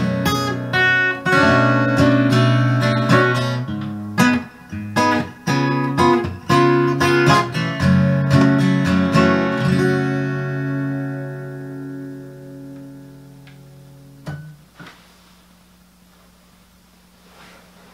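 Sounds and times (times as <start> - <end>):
acoustic guitar strumming: 0.0 - 14.7
faint steady hum: 0.0 - 17.9.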